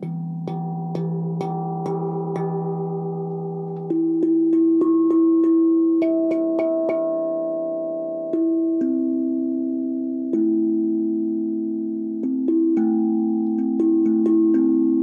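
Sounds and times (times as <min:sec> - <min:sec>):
steel tongue drum notes: 0:00.0 - 0:15.0.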